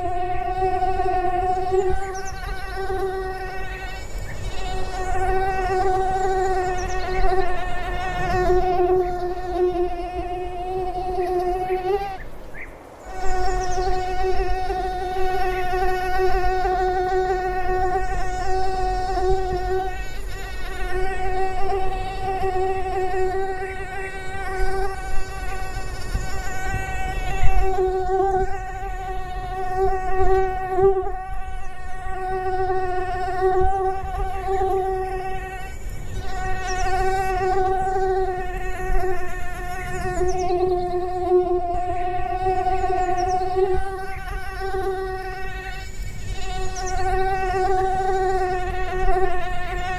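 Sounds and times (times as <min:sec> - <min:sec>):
mosquito whine: 0:00.0 - 0:49.9.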